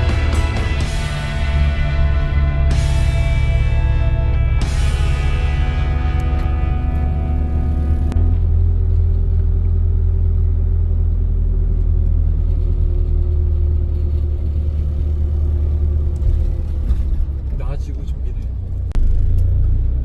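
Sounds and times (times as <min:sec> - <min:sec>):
car driving low rumble: 0:00.0 - 0:20.0.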